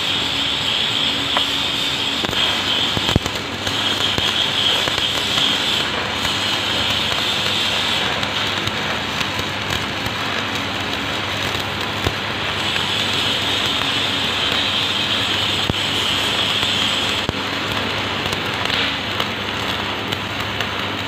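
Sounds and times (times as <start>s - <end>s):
welding arc crackling: 0.0s - 21.0s
small pops: 2.2s - 21.0s.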